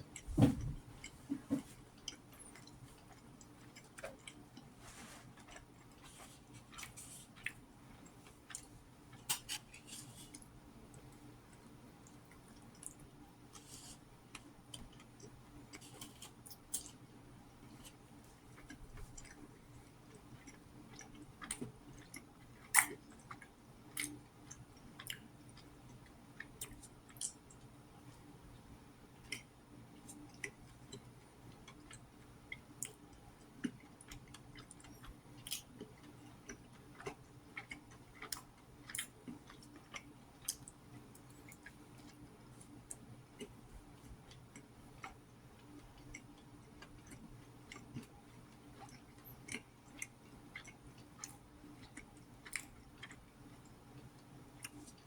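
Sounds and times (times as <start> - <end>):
chewing and mouth clicks: 2.0 - 4.7, 5.4 - 17.0, 17.6 - 27.7, 29.2 - 55.0.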